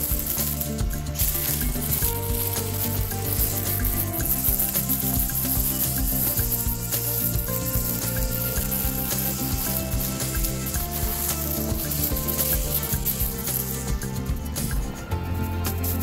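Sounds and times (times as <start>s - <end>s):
background music with bass: 0.0s - 16.0s
steady bright hiss: 0.0s - 16.0s.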